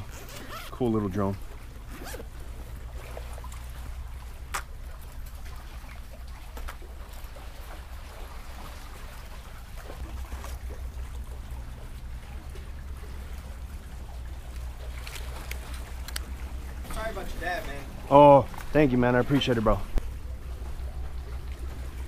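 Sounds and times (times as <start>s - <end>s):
lapping water: 0.0s - 22.0s.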